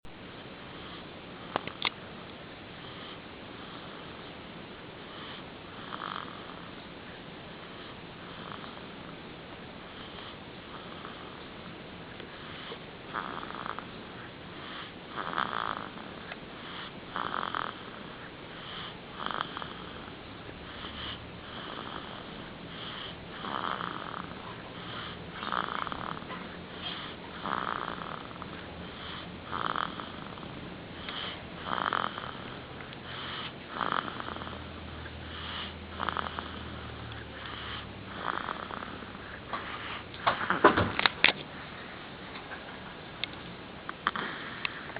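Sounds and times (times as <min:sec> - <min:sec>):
baby snoring: 0:02.8 - 0:04.3, 0:05.0 - 0:06.8, 0:07.5 - 0:09.2, 0:09.8 - 0:40.8, 0:43.9 - 0:44.9.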